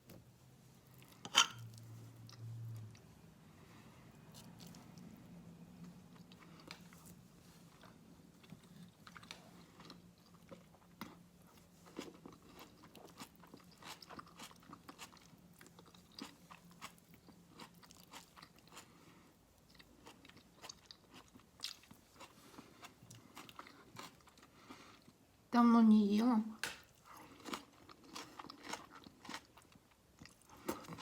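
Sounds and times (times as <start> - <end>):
faint low hum: 0.0 - 31.0
person chewing with crunches: 0.8 - 5.2, 5.8 - 25.3, 26.8 - 31.0.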